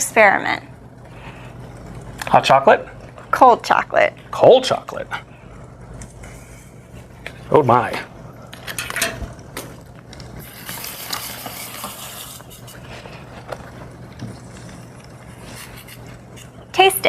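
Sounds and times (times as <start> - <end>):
liquid nitrogen hissing: 0.0 - 17.0.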